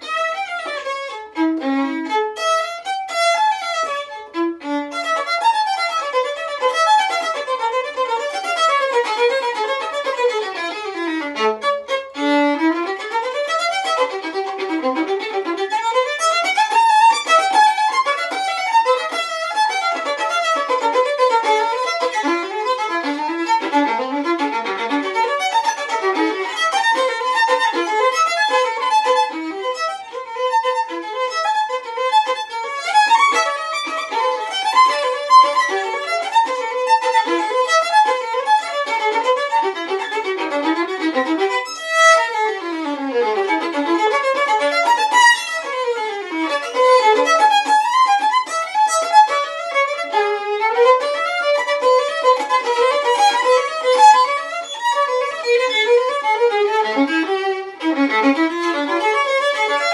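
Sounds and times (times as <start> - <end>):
solo violin fast passages: 0.0 - 59.9.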